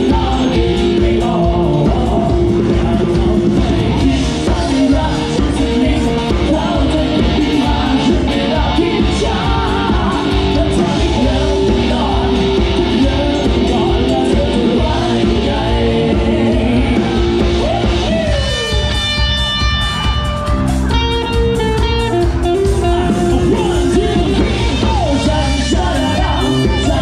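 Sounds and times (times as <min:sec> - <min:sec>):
sung vocals: 0:00.0 - 0:19.0, 0:22.7 - 0:27.0
live rock band playing: 0:00.0 - 0:27.0.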